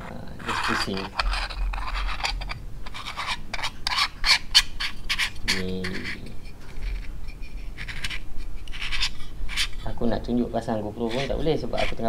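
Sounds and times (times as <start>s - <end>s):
filter threads scraping: 0.0s - 12.0s.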